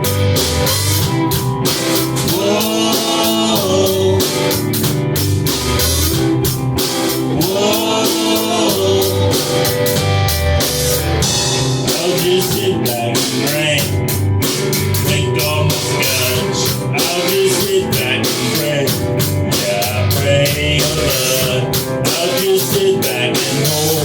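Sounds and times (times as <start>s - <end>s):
bass guitar: 0.0s - 24.0s
drum kit steady beat: 0.0s - 24.0s
electric guitar bending notes: 0.0s - 24.0s.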